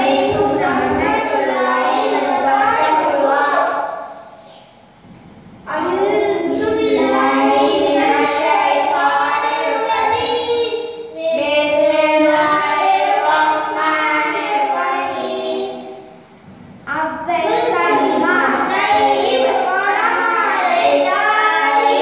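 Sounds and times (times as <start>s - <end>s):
boys singing unaccompanied: 0.0s - 4.1s, 5.7s - 16.1s, 16.9s - 22.0s.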